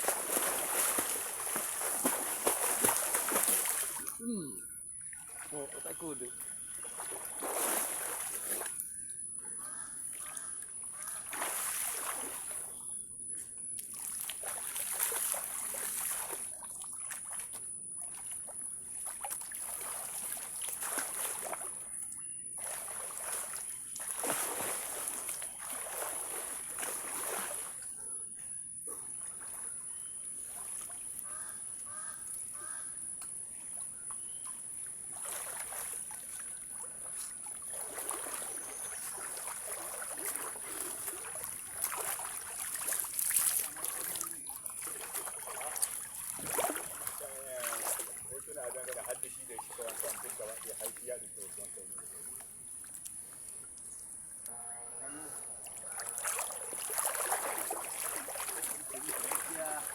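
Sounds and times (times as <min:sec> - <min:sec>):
river water splashing: 0:00.0 - 0:08.9, 0:10.0 - 0:12.8, 0:13.7 - 0:28.0, 0:29.0 - 0:59.9.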